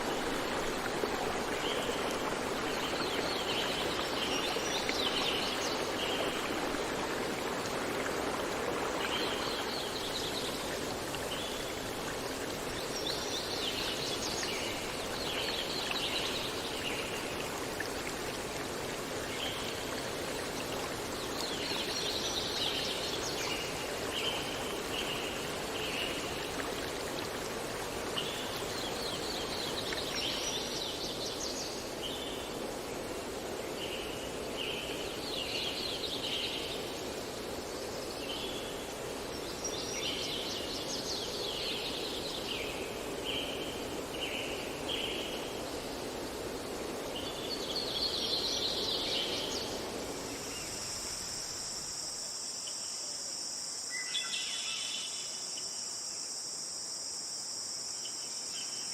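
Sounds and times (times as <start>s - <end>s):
flowing water rushing: 0.0s - 52.5s.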